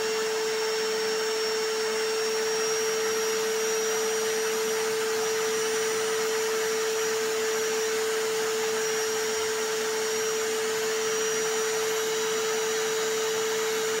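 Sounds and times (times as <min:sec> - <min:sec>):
hammer drill: 0:00.0 - 0:14.0
vacuum cleaner: 0:00.0 - 0:14.0.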